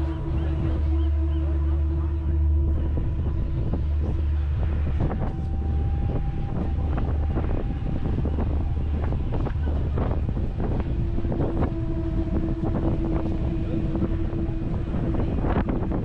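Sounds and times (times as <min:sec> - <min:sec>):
ferry engine droning: 0:00.0 - 0:16.0
wind buffeting microphone: 0:00.0 - 0:16.0.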